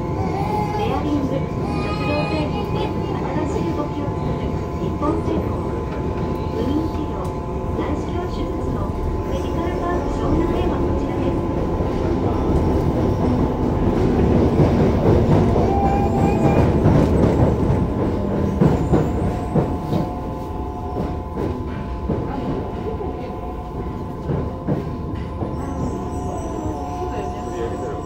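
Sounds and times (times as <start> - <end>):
subway train wheels on rail: 0.0 - 28.0.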